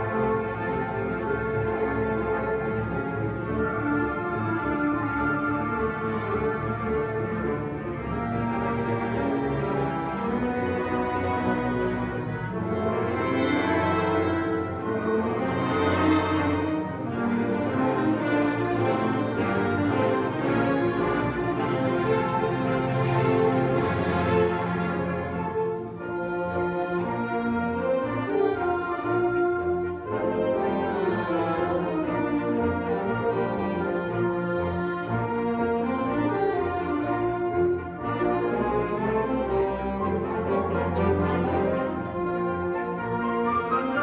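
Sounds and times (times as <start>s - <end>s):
wind band playing: 0.0s - 44.0s.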